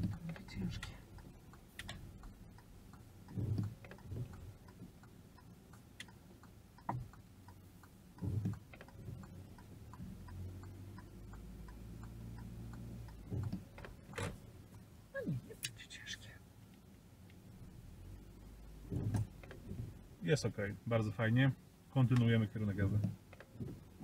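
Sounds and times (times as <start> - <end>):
windscreen wipers thumping: 0.0 - 15.6, 16.7 - 24.0
car turn indicator ticking: 0.0 - 24.0
low steady hum: 0.0 - 24.0.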